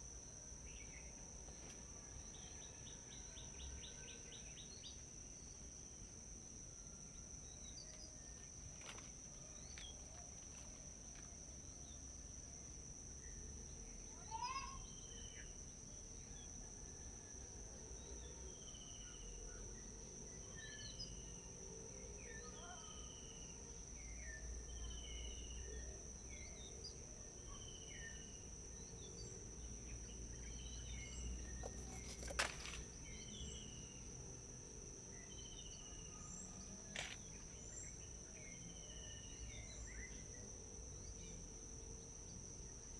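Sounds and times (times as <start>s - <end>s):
faint forest birds calling: 0.0s - 6.1s, 6.7s - 12.5s, 13.2s - 17.3s, 18.0s - 34.4s, 35.1s - 42.9s.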